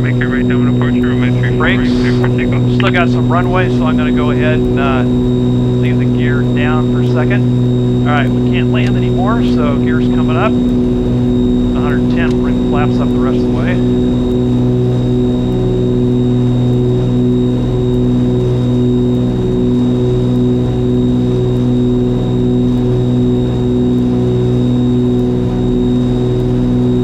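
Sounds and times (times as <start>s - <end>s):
aircraft piston engines droning: 0.0s - 27.0s.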